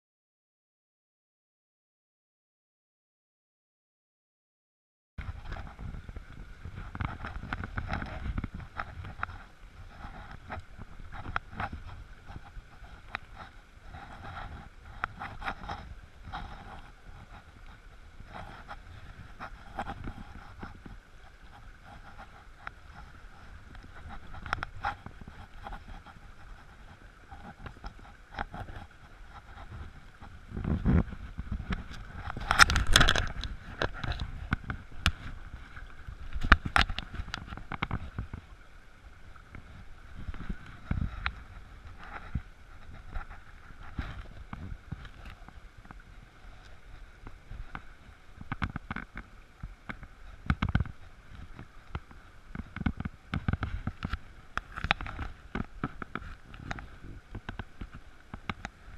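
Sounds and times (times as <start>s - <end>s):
wind buffeting microphone: 5.2s - 58.7s
stream rushing over stones: 5.2s - 58.9s.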